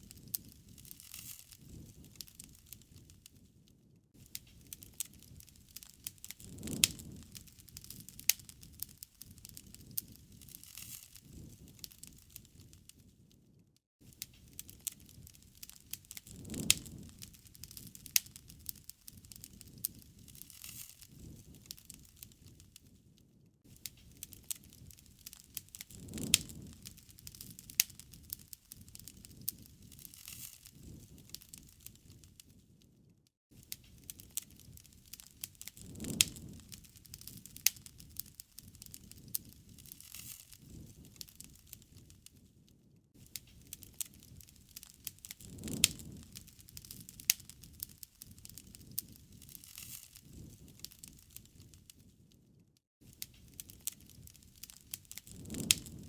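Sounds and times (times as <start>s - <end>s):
fire popping: 0.0s - 56.0s
low rumble of flame: 0.0s - 56.0s
wood fire crackling: 0.0s - 56.0s.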